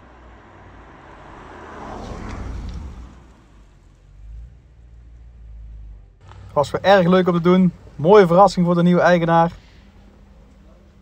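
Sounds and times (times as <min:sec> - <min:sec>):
car engine rumble driving past: 0:00.0 - 0:11.0.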